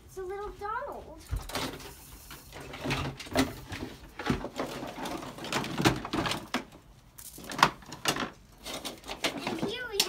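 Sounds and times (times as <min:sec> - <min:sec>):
plastic toys knocking and clattering: 0:01.3 - 0:10.0.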